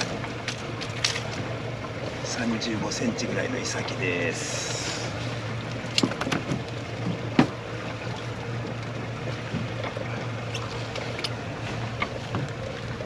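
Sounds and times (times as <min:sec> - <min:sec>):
low steady hum: 0:00.0 - 0:13.0
water washing against hull: 0:00.0 - 0:13.0.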